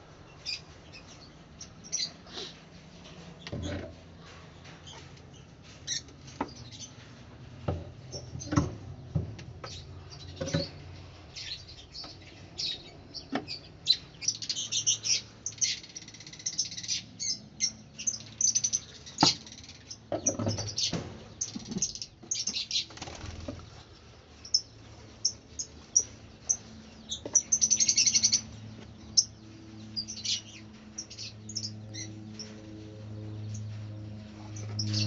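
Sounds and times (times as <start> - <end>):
lovebirds chirping: 0.1 - 7.1, 8.1 - 32.6, 33.2 - 35.0.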